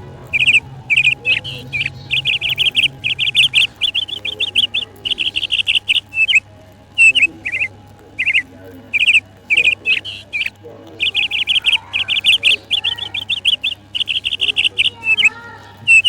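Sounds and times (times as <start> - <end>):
budgerigars chirping: 0.0 - 16.0
low steady hum: 0.0 - 16.0.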